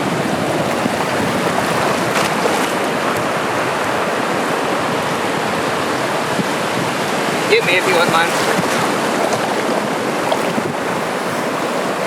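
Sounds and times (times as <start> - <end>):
ocean surf washing: 0.0 - 12.0.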